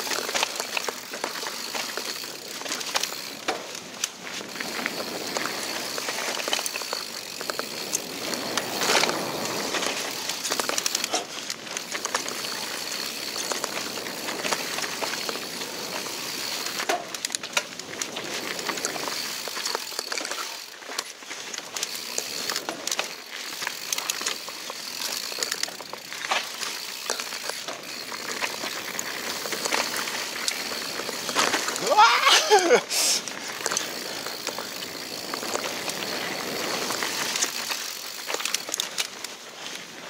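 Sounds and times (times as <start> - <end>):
bike clattering and rattling: 0.0 - 40.0
bike tyres rolling over dirt: 0.0 - 40.0.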